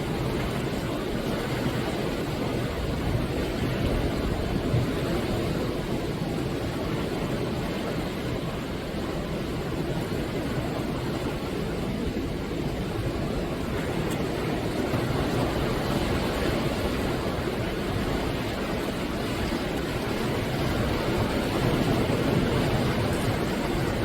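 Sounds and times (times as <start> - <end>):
ocean waves breaking: 0.0 - 24.0.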